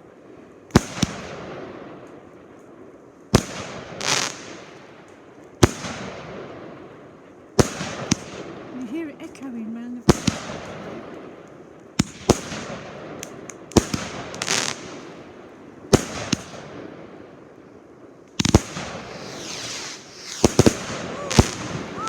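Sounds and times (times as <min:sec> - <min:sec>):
fireworks crackling: 0:00.0 - 0:22.0
fireworks bangs: 0:00.7 - 0:02.3, 0:03.3 - 0:17.5, 0:18.3 - 0:22.0.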